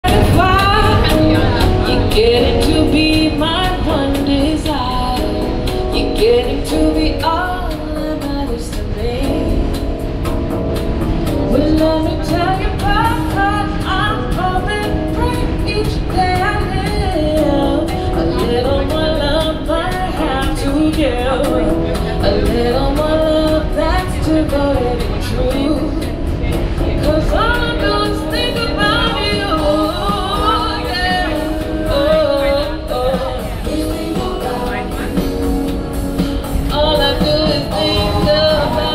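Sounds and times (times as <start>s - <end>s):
woman singing into microphone: 0.0s - 10.2s, 11.3s - 38.9s
steady low rumble: 0.0s - 38.9s.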